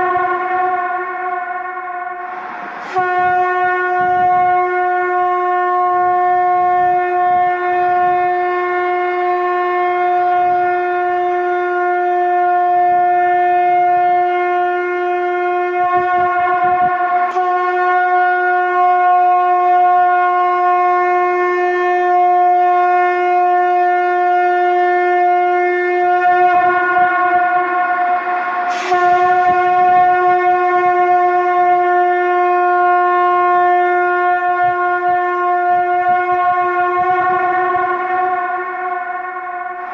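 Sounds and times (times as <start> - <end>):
conch shell blast: 0.0 - 39.9.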